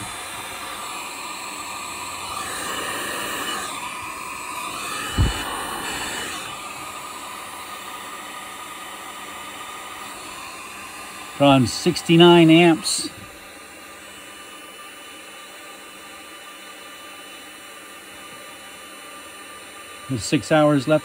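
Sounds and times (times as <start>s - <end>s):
heat gun blowing hiss: 0.0s - 21.0s.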